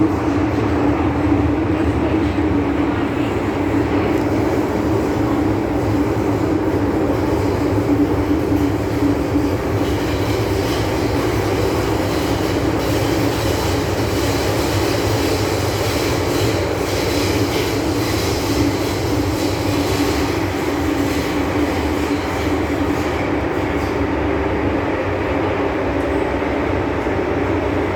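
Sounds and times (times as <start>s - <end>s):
train hum: 0.0s - 27.9s
train wheels rumbling on rail: 0.0s - 27.9s.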